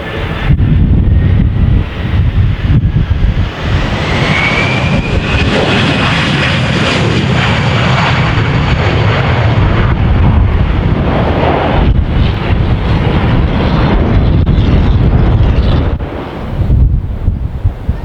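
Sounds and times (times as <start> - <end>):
high turbine whine: 0.0 - 18.0
jet engine roar: 0.0 - 18.0
wind rumbling on microphone: 0.0 - 18.0.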